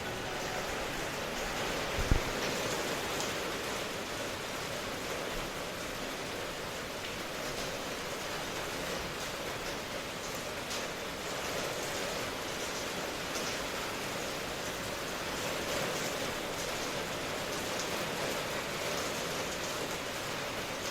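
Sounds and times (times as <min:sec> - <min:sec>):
steady rainfall: 0:00.0 - 0:20.9.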